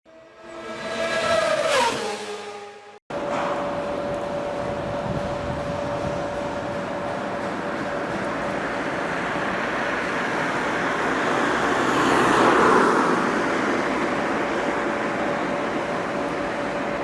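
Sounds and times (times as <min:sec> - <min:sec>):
road vehicle passing by: 0:00.1 - 0:03.0, 0:05.6 - 0:17.0.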